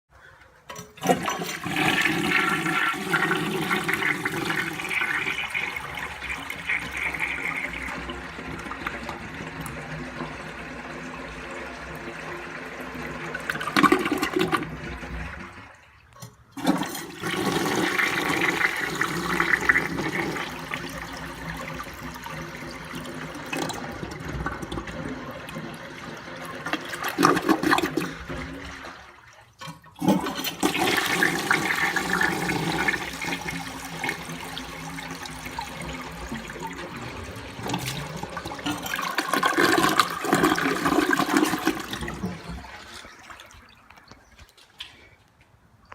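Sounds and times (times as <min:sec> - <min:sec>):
toilet flushing: 0:00.1 - 0:44.4
water gurgling: 0:01.0 - 0:44.6.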